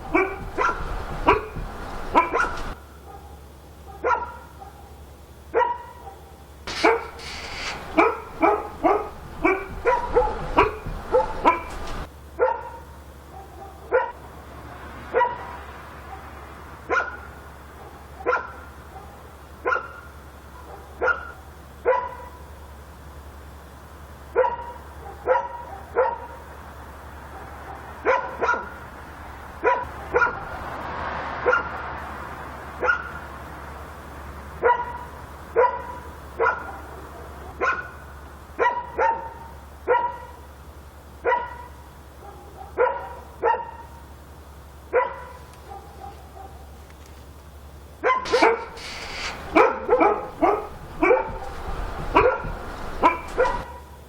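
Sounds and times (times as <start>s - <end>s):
dog barking: 0.0s - 14.5s, 15.1s - 22.5s, 24.3s - 26.6s, 27.2s - 30.7s, 31.4s - 31.8s, 32.8s - 33.2s, 34.6s - 40.5s, 41.2s - 44.1s, 44.9s - 46.8s, 48.0s - 54.0s.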